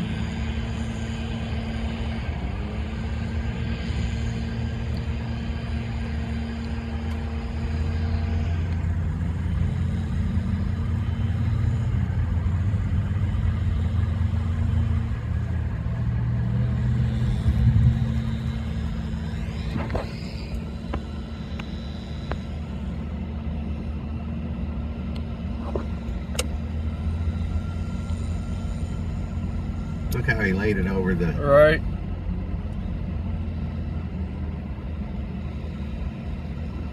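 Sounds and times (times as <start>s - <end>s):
car engine hum from inside cabin: 0.0s - 36.9s.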